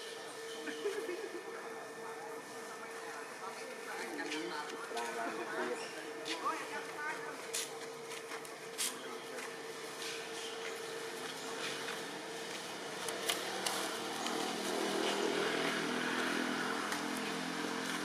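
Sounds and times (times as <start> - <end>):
outdoor background hum: 0.0 - 18.0.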